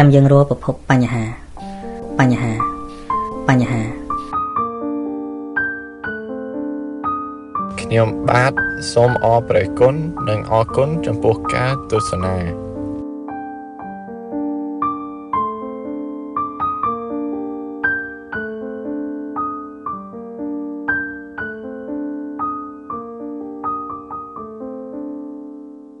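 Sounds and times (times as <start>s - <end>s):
slow gentle piano melody: 1.3s - 26.0s.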